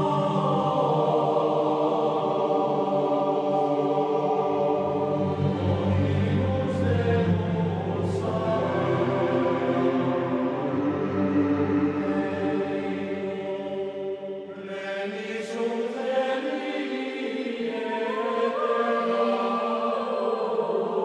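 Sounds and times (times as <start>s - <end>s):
choir chanting held notes: 0.0s - 21.0s.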